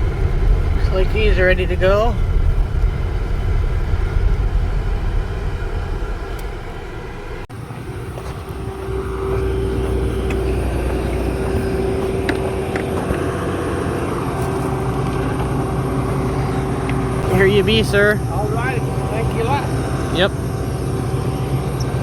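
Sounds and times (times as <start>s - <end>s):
steady hum with held tone: 0.0s - 22.0s
vehicle engine and road rumble: 0.0s - 22.0s.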